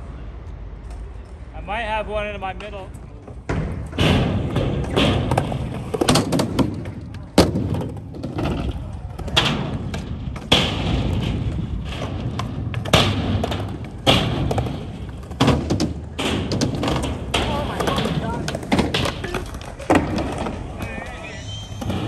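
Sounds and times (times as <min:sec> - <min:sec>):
skateboards rolling on concrete: 0:00.0 - 0:22.0
skateboard clacks and thuds: 0:03.2 - 0:21.2.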